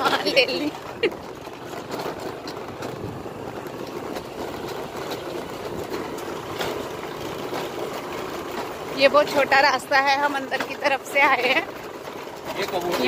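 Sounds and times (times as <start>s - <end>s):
motorbike engine hum: 0.0s - 13.0s
road and wind noise: 0.0s - 13.0s.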